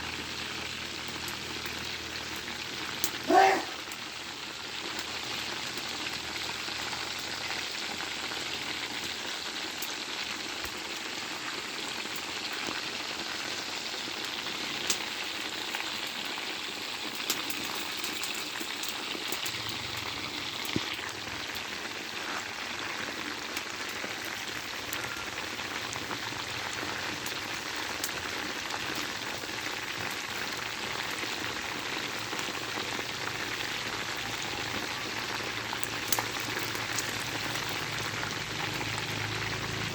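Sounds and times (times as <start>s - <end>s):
chicken sizzling in a pan: 0.0s - 39.9s.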